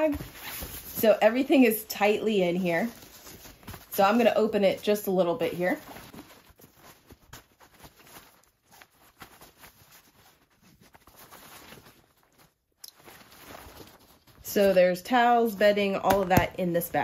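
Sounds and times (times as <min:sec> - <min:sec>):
nylon fabric rustling: 0:00.0 - 0:17.0.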